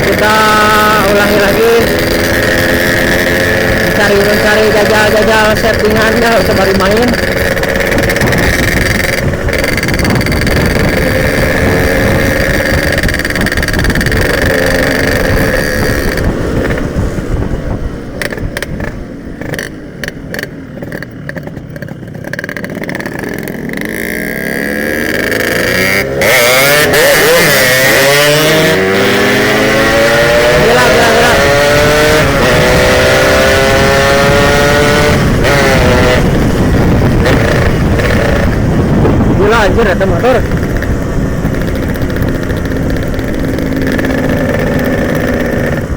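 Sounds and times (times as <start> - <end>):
wind rush: 0.0 - 19.4, 26.9 - 45.9
motorcycle engine revving: 0.0 - 45.9.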